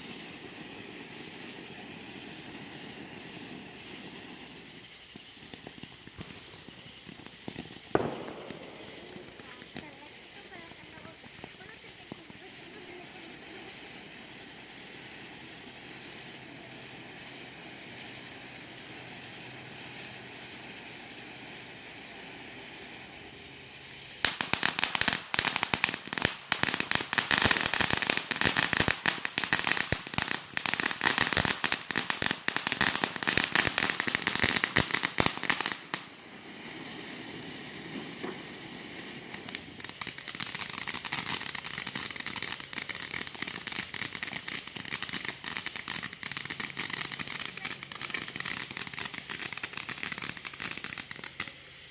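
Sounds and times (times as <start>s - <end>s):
faint steady hiss: 0.0s - 51.9s
firecrackers popping: 0.0s - 51.9s.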